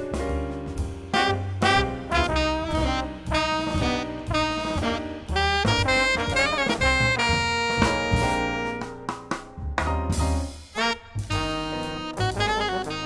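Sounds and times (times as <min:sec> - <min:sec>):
drums: 0:00.0 - 0:13.0
jazz horn line: 0:00.0 - 0:13.0
walking bass: 0:00.0 - 0:13.0.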